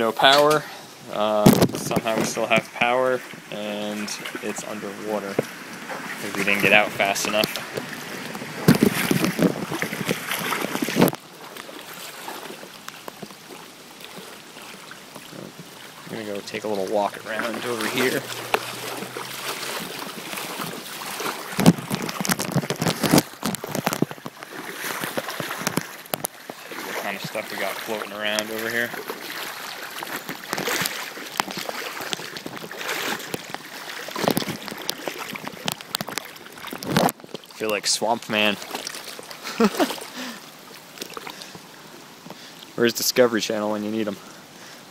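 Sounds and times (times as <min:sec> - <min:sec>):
floodwater sloshing and splashing: 0:00.0 - 0:44.9.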